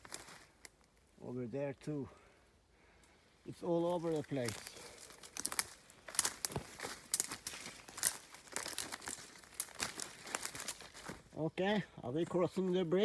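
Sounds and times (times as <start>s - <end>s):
footsteps crackling through undergrowth: 0.0s - 2.0s, 2.9s - 13.0s.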